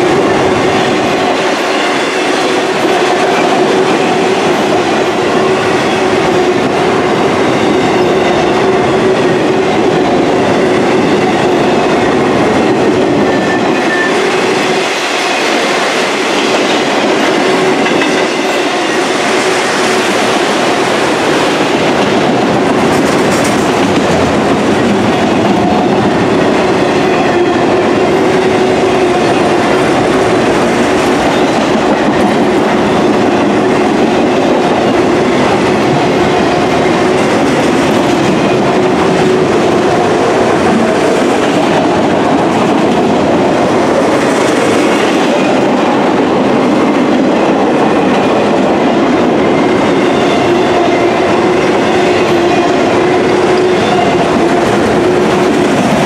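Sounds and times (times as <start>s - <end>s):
steel wheels running on rails: 0.0s - 56.0s.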